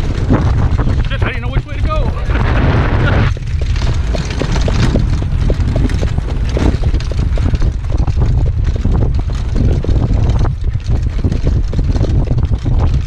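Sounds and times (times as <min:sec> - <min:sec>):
hooves and cart clattering: 0:00.0 - 0:13.0
wind buffeting microphone: 0:00.0 - 0:13.0.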